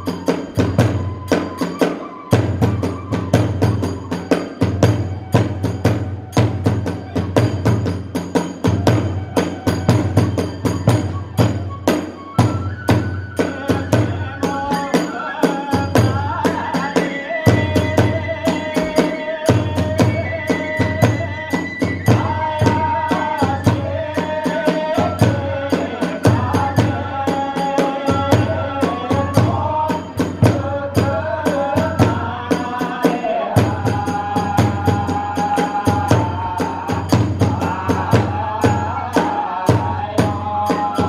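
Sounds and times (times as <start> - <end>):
bamboo flute melody: 0.0 - 41.0
rapid drum beat: 0.0 - 41.0
small hand cymbals: 0.0 - 41.0.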